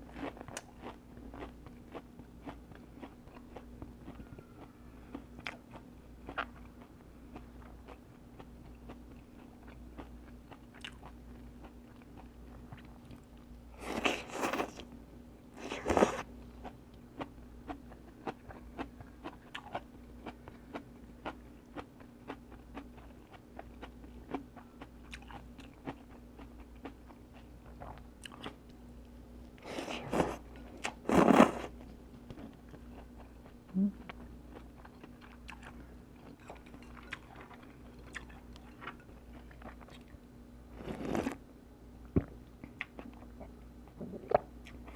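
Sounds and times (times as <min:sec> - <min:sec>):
person chewing crunchy food: 0:00.0 - 0:14.9, 0:15.6 - 0:28.7, 0:29.6 - 0:41.4.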